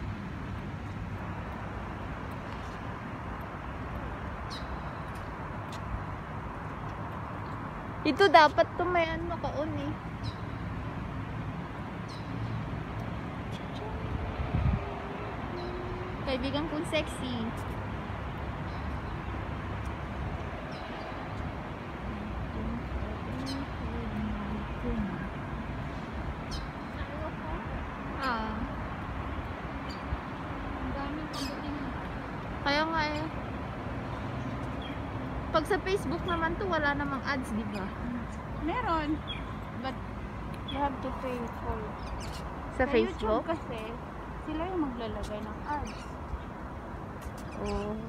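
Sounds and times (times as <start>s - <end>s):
distant city traffic hum: 0.0s - 48.0s.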